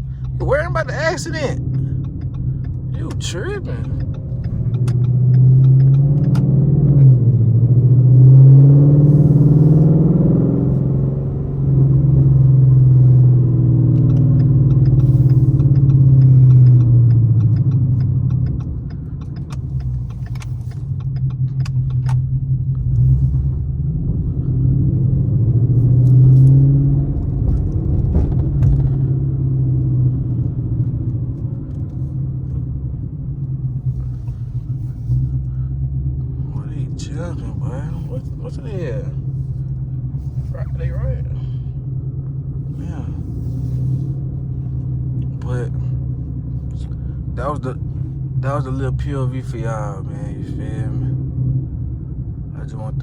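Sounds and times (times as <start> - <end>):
car engine revving: 0.0 - 53.0
road noise: 0.0 - 53.0.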